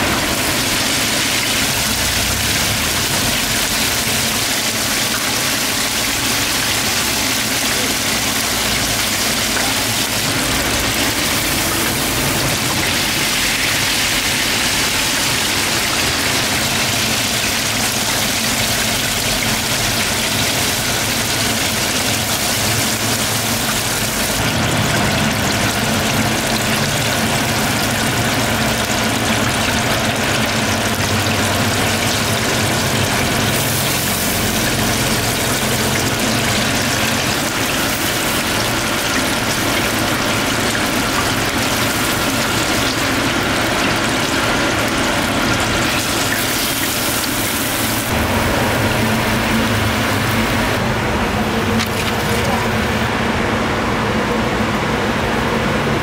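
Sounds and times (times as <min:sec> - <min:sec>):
oil sizzling and bubbling: 0:00.0 - 0:55.6.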